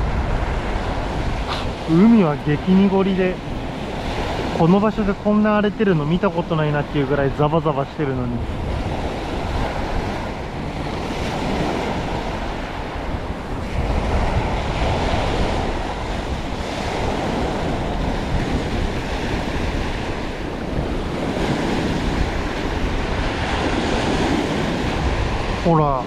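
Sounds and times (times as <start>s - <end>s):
sea surf washing in: 0.0s - 26.0s
wind buffeting microphone: 0.0s - 26.0s.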